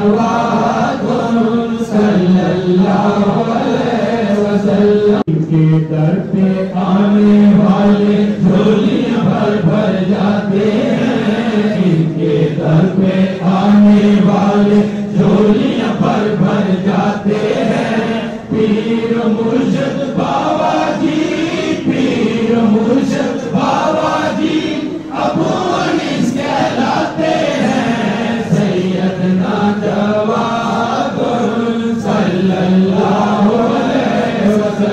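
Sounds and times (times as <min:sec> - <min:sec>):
men chanting in unison: 0:00.0 - 0:34.9.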